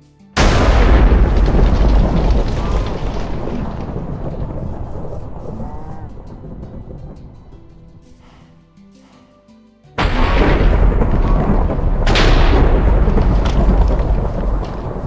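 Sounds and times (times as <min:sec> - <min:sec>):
deep rolling thunder rumble: 0:00.4 - 0:08.4, 0:10.0 - 0:15.0
thunderclap crack: 0:00.4 - 0:08.5, 0:10.0 - 0:15.0.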